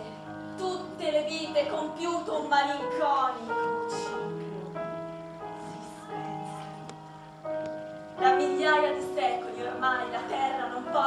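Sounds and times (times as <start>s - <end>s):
slow sustained stage music: 0.0s - 11.0s.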